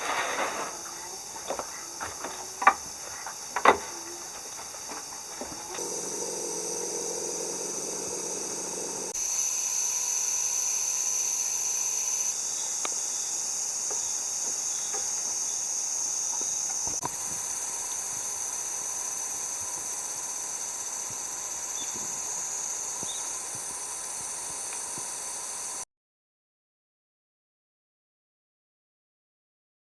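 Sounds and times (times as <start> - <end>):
insects chirring: 0.0 - 25.8.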